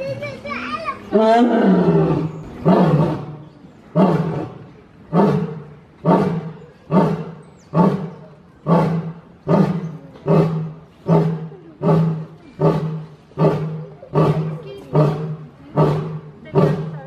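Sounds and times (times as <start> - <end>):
lion roaring: 1.1 - 17.0.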